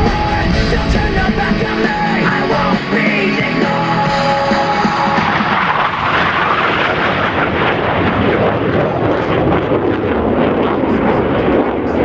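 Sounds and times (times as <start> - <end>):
jet roar: 0.0 - 12.0.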